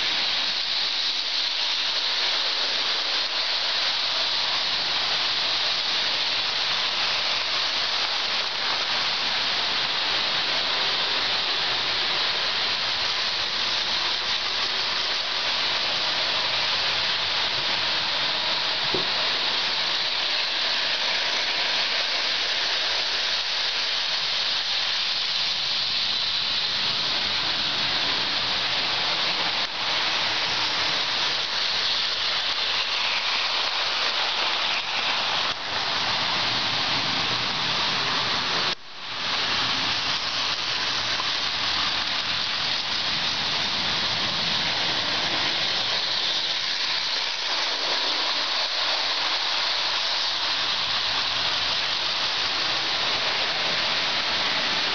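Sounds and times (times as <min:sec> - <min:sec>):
model trains rolling on metal track: 0:00.0 - 0:54.9.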